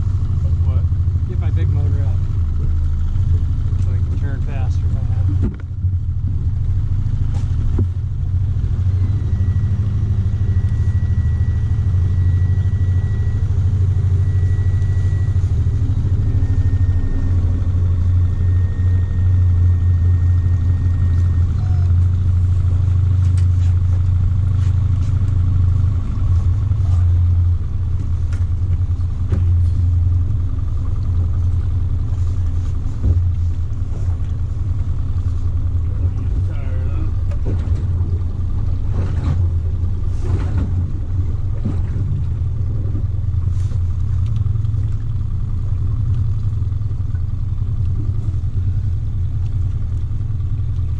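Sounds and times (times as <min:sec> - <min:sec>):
outboard motor running: 0:00.0 - 0:50.9.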